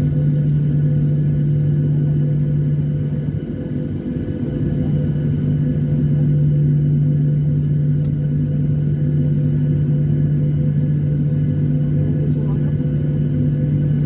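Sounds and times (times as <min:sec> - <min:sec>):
airliner engines droning: 0:00.0 - 0:14.0.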